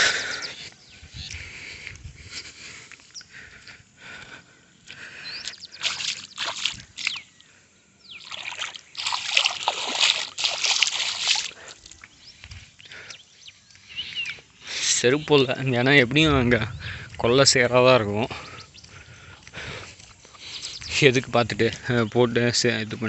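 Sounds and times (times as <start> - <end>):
bare feet squelching in mud: 0.0 - 7.5, 8.1 - 14.6, 16.9 - 22.0.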